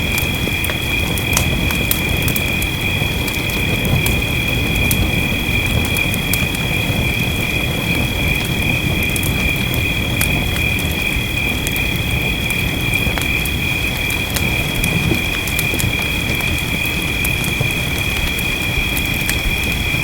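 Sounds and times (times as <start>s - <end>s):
rain rumble: 0.0s - 20.0s
wood fire crackling: 0.0s - 20.0s.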